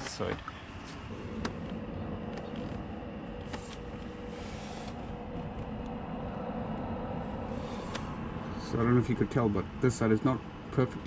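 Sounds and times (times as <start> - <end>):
workshop background hum: 0.0 - 11.0.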